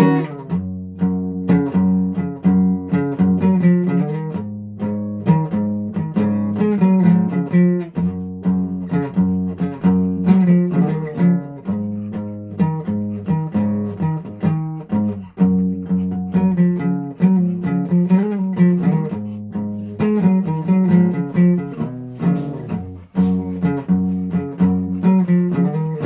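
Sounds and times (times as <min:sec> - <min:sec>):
guitar plucked notes and chords: 0:00.0 - 0:26.0.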